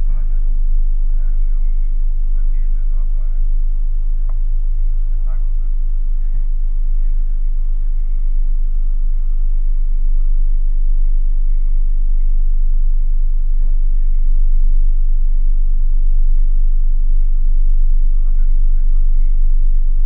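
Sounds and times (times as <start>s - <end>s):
car engine rumble from inside cabin: 0.0s - 20.0s.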